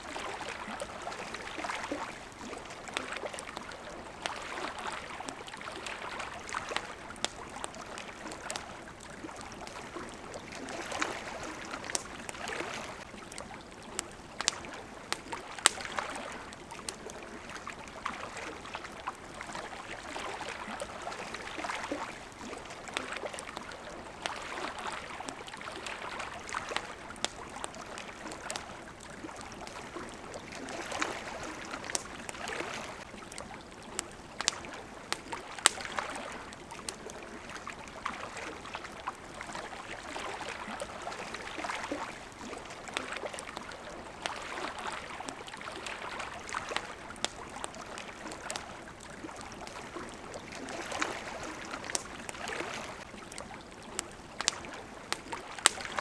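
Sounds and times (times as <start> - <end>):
campfire crackling: 0.0 - 56.0
water lapping: 0.0 - 56.0.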